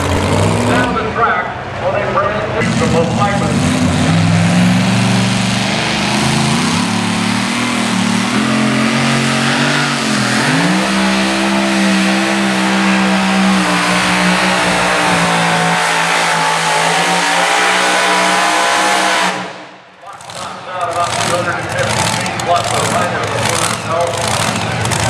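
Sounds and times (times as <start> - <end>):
truck engine under load: 0.0 - 25.0.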